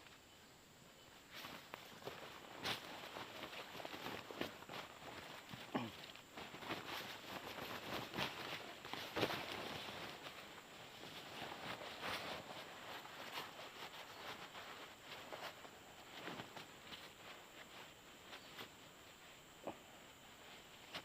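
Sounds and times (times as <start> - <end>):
rustling through dry leaves: 1.2 - 21.0.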